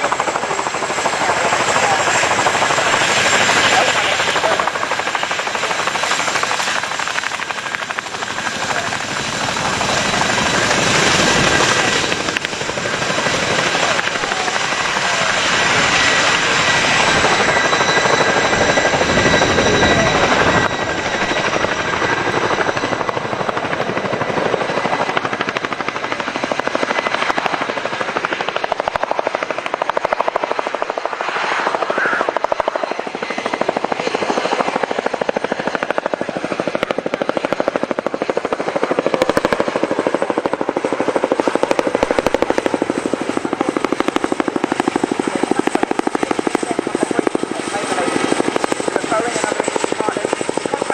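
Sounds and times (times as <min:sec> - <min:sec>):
helicopter high whine: 0:00.0 - 0:50.9
helicopter rotor beat: 0:00.0 - 0:50.9.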